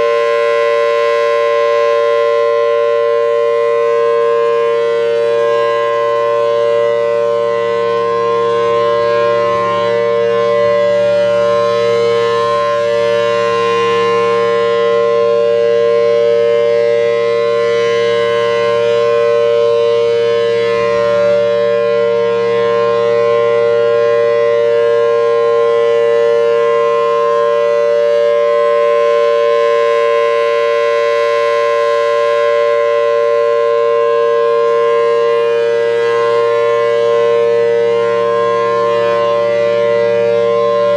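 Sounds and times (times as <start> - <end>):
civil defense siren steady tone: 0.0 - 40.9.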